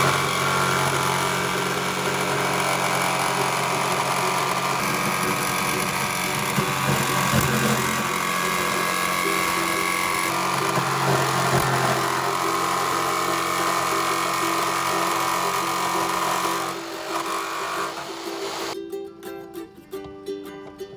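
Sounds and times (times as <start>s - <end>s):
power tool cutting metal: 0.0s - 18.8s.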